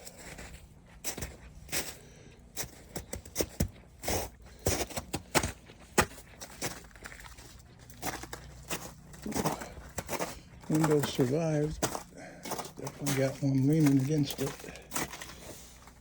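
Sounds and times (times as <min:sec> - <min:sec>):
footsteps crunching on ice: 0:00.0 - 0:16.0.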